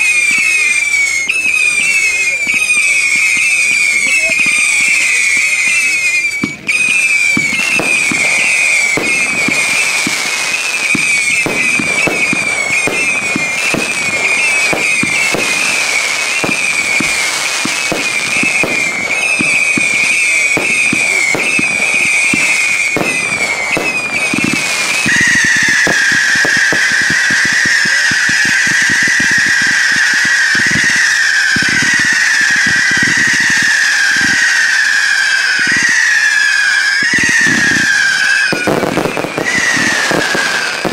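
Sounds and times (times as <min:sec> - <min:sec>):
fireworks launches and bursts: 0:00.0 - 0:40.9
high whistle: 0:00.0 - 0:40.9.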